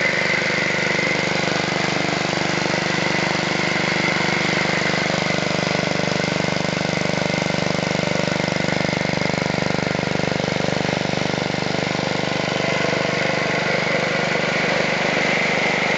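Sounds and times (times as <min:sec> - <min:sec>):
small engine running steadily: 0:00.0 - 0:15.9.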